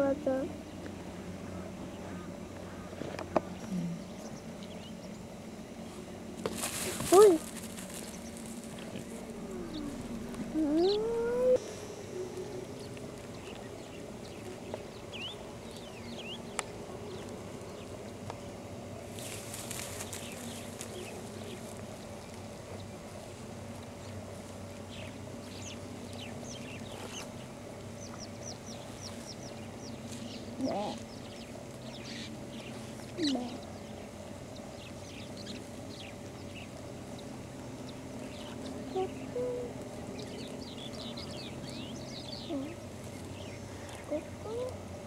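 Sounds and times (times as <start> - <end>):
small birds chirping: 0.0 - 5.7, 6.6 - 45.0
low background rumble: 0.0 - 45.0.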